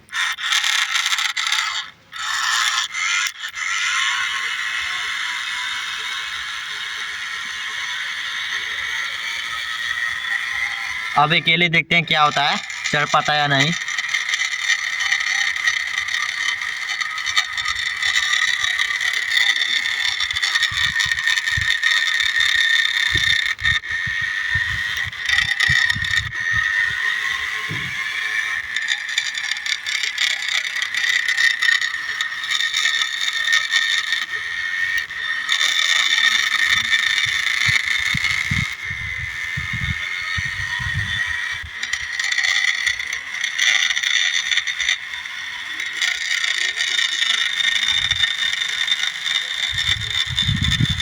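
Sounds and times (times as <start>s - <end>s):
toy tractor motor whining: 0.0s - 51.0s.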